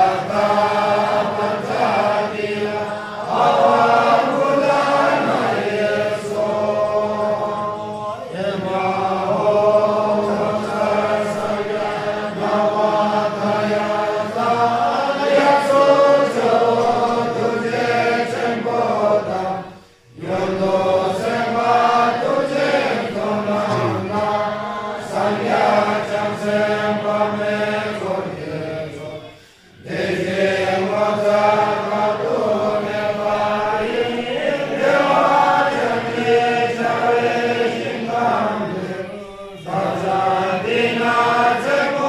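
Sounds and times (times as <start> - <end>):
group chanting a prayer: 0.0 - 42.0.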